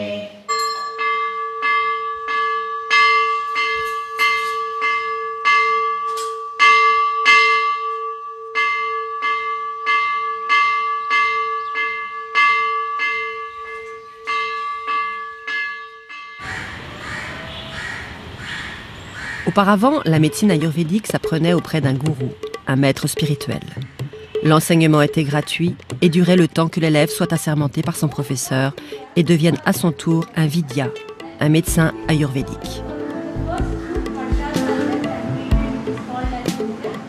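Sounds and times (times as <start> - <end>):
temple bell ringing: 0.3 - 16.5, 19.6 - 37.0.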